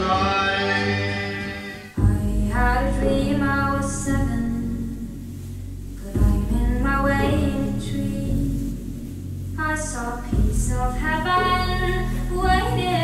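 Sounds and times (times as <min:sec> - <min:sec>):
sung melody over deep bass: 0:01.9 - 0:13.0.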